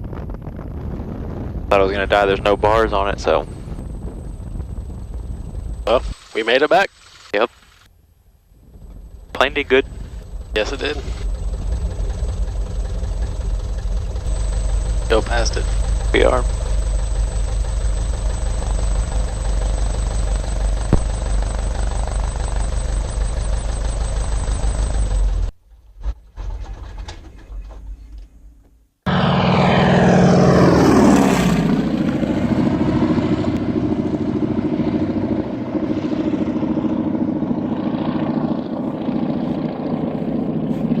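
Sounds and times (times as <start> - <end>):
propeller engine drone: 0.0 - 25.5, 29.1 - 41.0
propeller plane passing close: 0.2 - 6.1, 8.6 - 25.4, 29.1 - 41.0.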